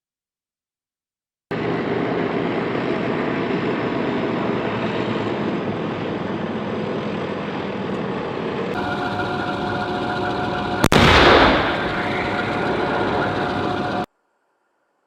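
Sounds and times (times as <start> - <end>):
heavy machinery engine noise: 1.5 - 14.1.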